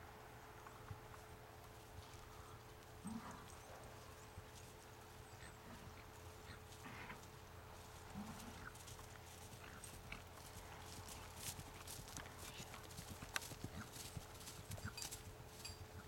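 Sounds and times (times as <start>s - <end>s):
hoofbeats on grass: 0.5s - 16.0s.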